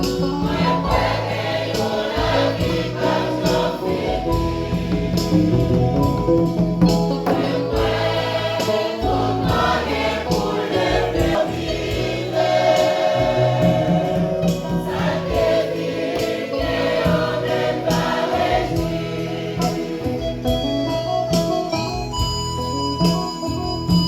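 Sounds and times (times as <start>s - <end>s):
choir singing a hymn: 0.0s - 21.4s
percussive beat: 0.0s - 24.0s.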